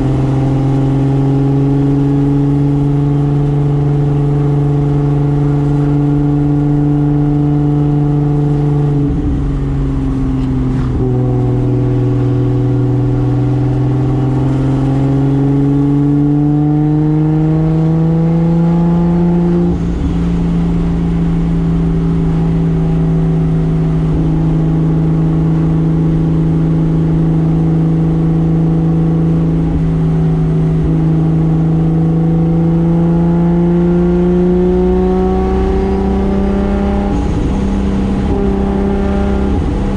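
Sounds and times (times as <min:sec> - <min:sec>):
car engine accelerating under load: 0:00.0 - 0:39.9.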